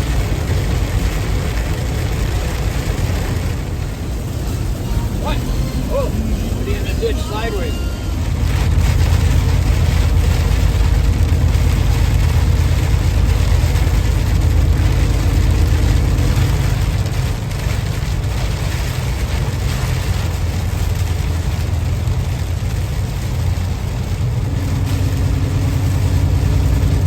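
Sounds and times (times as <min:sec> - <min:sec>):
diesel engine and road noise: 0:00.0 - 0:27.0.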